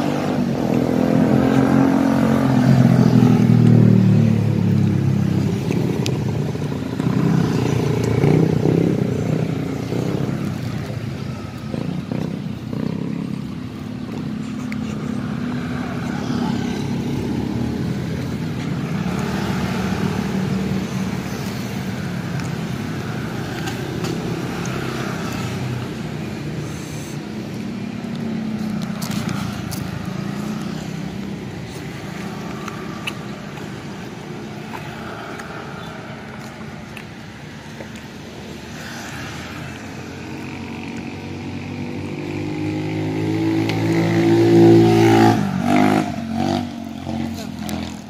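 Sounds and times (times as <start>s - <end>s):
cars and motorcycles passing: 0.0s - 48.0s.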